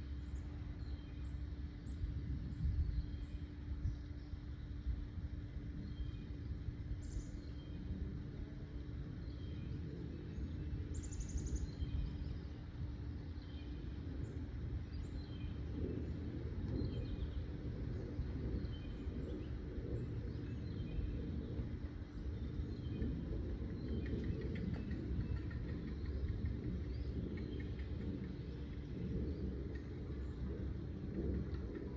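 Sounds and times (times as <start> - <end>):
low hum: 0.0 - 31.9
steady low rumble: 0.0 - 31.9.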